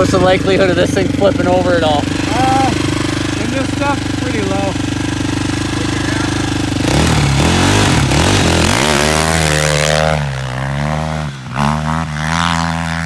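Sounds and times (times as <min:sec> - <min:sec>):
quad engine idling and revving: 0:00.0 - 0:13.0.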